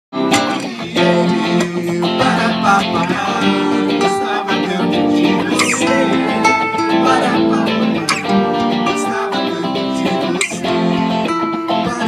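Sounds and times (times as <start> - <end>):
acoustic guitar strumming chords: 0.1 - 12.0
electric guitar: 0.1 - 12.0.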